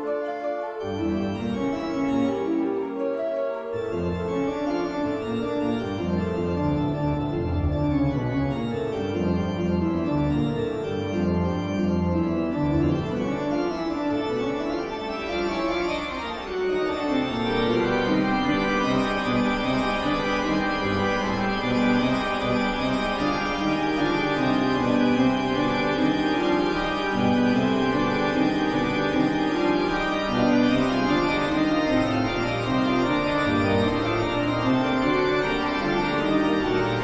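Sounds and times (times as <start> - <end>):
eerie organ chords: 0.8 - 37.0.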